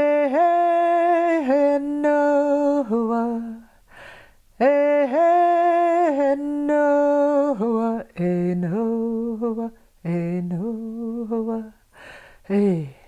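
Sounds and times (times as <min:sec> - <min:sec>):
person chanting unaccompanied: 0:00.0 - 0:03.7, 0:04.6 - 0:11.8, 0:12.4 - 0:13.0.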